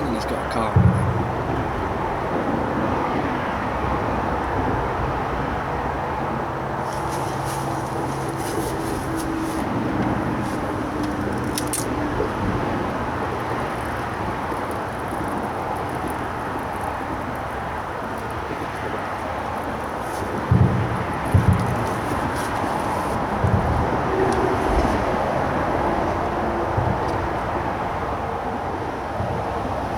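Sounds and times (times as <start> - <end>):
road traffic noise: 0.0 - 29.9
vehicle engine hum: 0.0 - 29.9.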